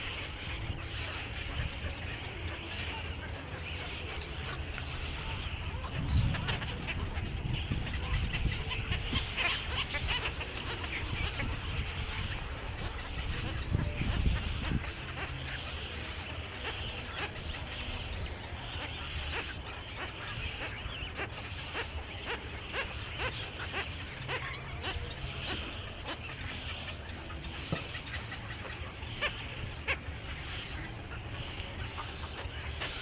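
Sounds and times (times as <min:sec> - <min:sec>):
small birds chirping: 0:00.0 - 0:33.0
steady low rumble: 0:00.0 - 0:33.0.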